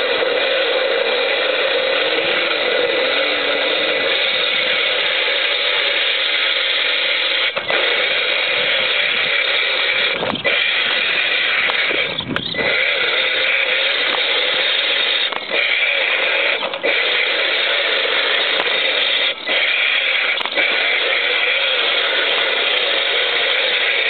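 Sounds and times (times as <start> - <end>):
electric motor and gearbox whining: 0.0 - 24.0.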